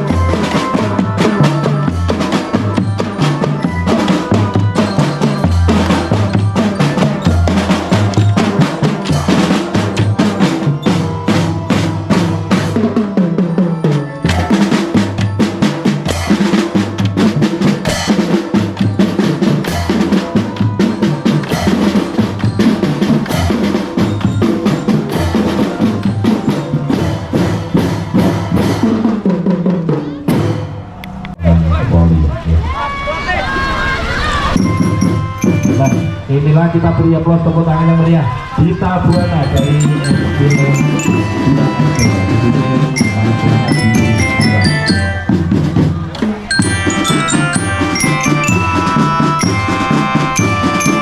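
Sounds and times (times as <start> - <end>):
bell lyre melody: 0.0 - 28.7, 34.5 - 37.9, 38.7 - 51.0
marching drum band playing: 0.0 - 32.7, 34.5 - 37.8, 38.4 - 51.0.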